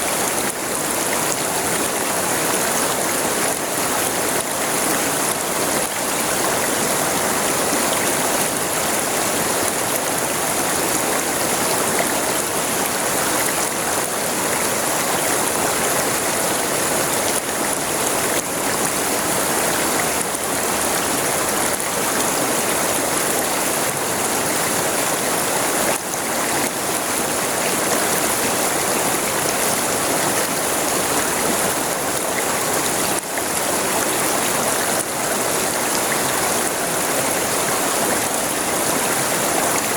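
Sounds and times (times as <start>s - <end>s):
river water rushing and splashing: 0.0s - 39.9s.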